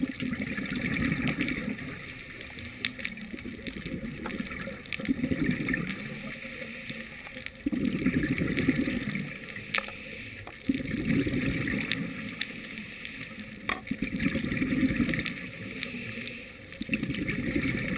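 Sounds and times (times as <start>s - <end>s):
underwater bubbles gurgling: 0.0s - 17.9s.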